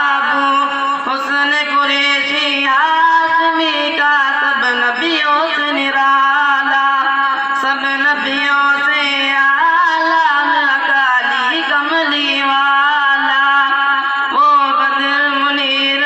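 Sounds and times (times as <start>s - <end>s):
boy singing into a microphone: 0.0s - 16.0s.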